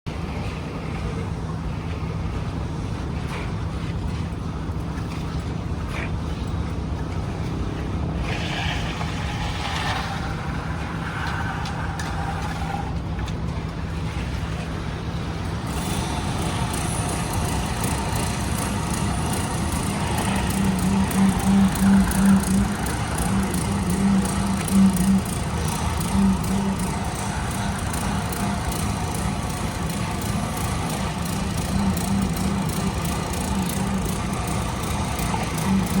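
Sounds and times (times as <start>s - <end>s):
heavy machinery engine humming: 0.1s - 36.0s.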